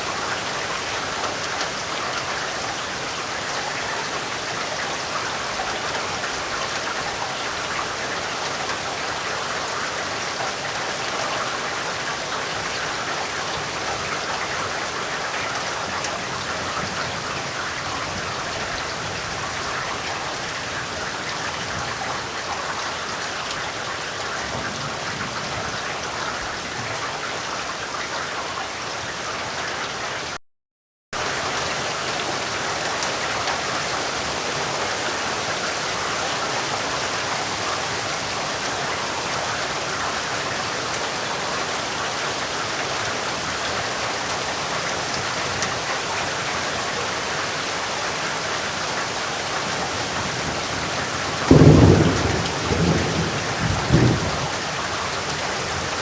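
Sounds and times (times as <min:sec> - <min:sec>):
steady rain: 0:00.0 - 0:30.4, 0:31.2 - 0:56.0.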